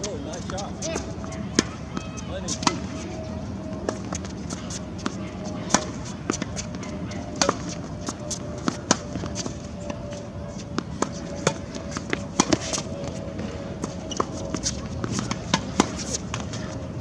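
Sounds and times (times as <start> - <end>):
steady background noise: 0.0 - 17.0
tennis balls bouncing on court: 0.0 - 17.0
tennis balls struck by rackets: 0.0 - 17.0.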